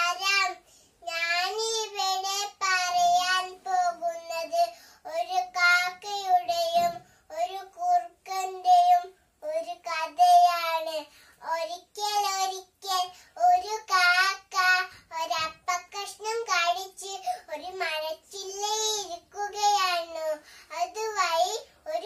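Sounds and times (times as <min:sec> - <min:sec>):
girl singing unaccompanied: 0:00.0 - 0:22.0.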